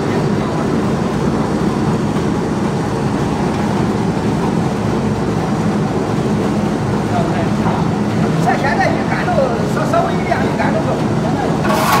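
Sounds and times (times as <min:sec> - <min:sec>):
briquette machine droning: 0:00.0 - 0:12.0.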